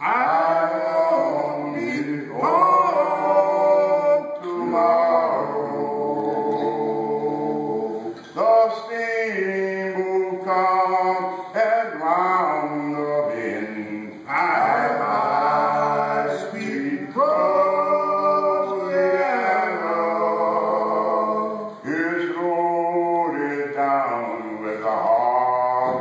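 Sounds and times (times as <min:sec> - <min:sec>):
men singing in harmony: 0:00.0 - 0:26.0.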